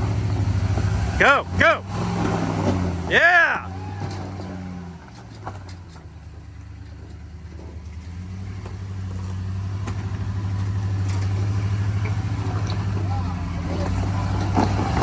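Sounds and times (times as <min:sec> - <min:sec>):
truck engine running at low revs: 0:00.0 - 0:15.0.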